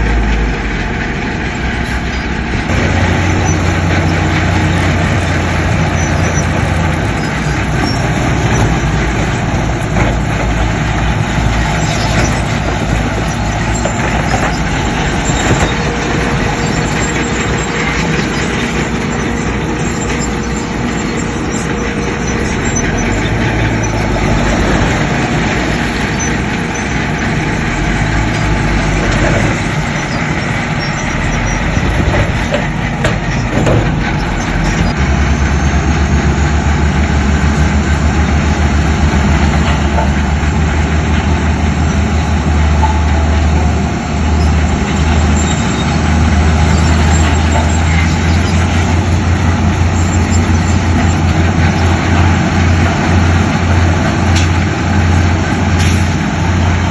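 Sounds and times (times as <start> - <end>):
deep pulsing engine drone: 0.0 - 56.9
earthmoving machinery working: 1.8 - 56.9.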